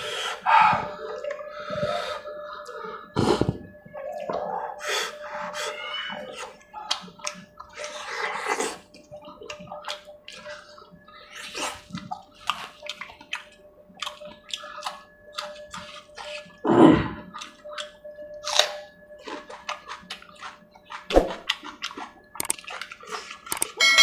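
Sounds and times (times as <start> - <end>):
wet squelches of food: 0.0 - 23.7.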